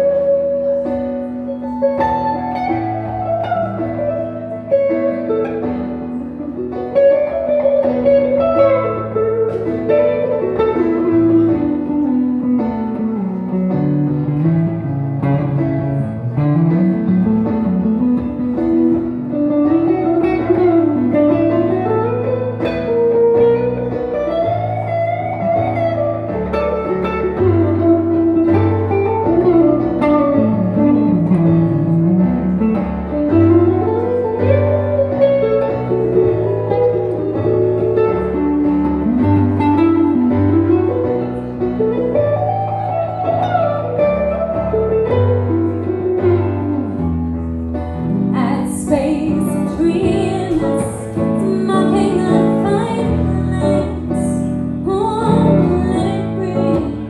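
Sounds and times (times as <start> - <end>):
guitar melodic lead: 0.0 - 57.0.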